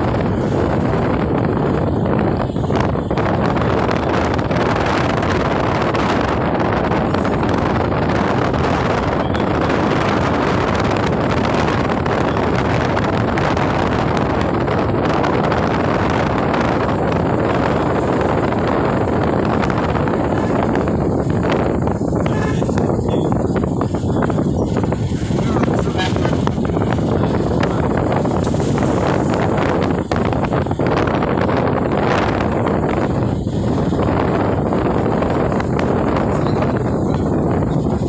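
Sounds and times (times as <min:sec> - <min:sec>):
road and engine noise: 0:00.0 - 0:38.0
wind rushing past vehicle window: 0:00.0 - 0:38.0.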